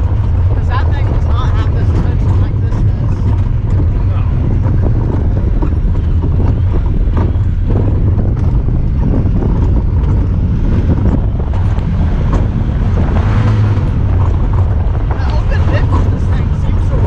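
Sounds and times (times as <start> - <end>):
engine running while driving: 0.0 - 17.0
knocks and rattles: 0.0 - 17.0
wind buffeting microphone: 0.0 - 17.0.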